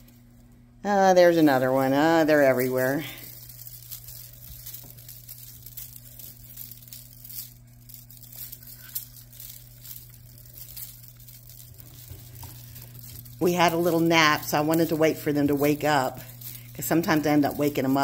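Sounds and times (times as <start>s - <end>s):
steady low hum: 0.0s - 18.0s
feathers rustling: 1.4s - 18.0s
light clicks and scratches: 2.2s - 18.0s
paws scrabbling on tile: 2.6s - 18.0s.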